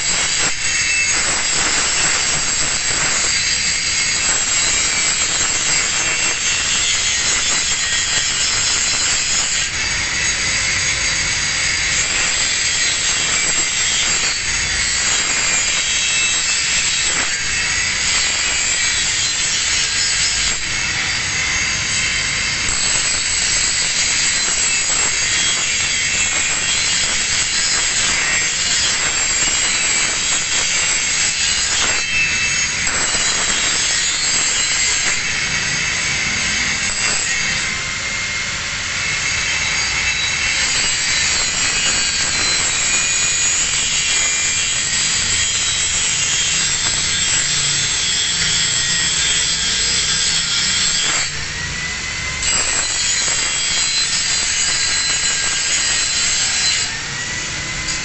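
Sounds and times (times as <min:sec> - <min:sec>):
angle grinder grinding steel: 0:00.0 - 0:58.0.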